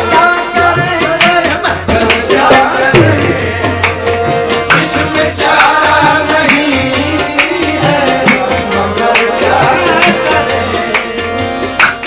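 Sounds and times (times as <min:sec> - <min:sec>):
hand drums beating: 0:00.0 - 0:12.0.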